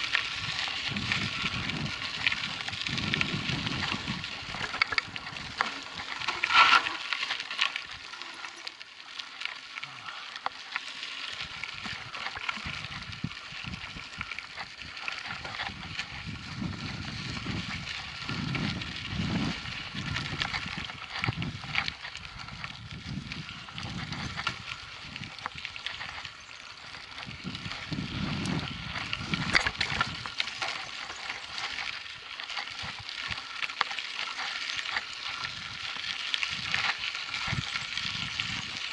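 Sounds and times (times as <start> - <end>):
wind rumble on microphone: 0.0 - 6.8, 11.3 - 33.4, 34.8 - 38.9
bike tyres crackling on dirt: 0.0 - 38.9.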